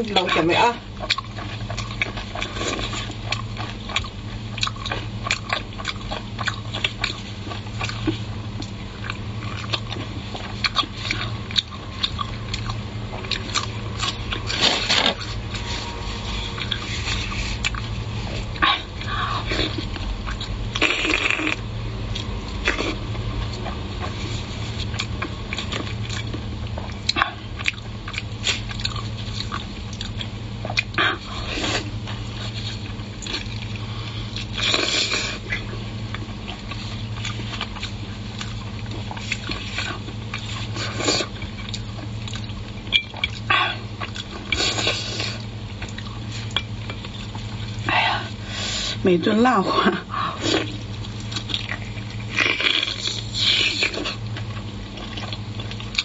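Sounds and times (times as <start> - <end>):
person chewing and tearing meat: 0.1 - 49.0, 50.0 - 56.0
low hum: 0.8 - 56.0.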